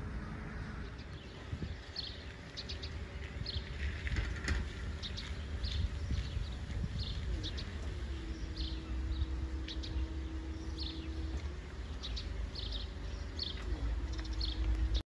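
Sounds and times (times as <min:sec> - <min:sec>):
boat engine hum: 0:00.0 - 0:15.0
small birds chirping: 0:00.0 - 0:15.0.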